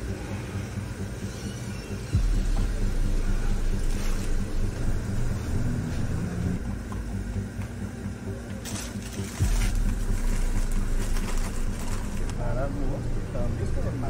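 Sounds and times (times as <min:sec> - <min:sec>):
deep bass drone: 0:00.0 - 0:14.0
low steady rumble and hum: 0:00.0 - 0:14.0.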